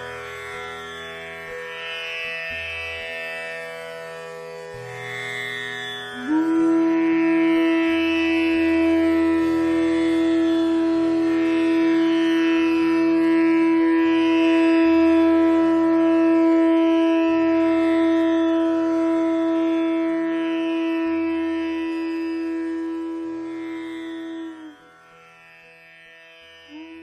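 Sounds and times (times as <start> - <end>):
instrumental music with long held note: 0.0 - 27.0.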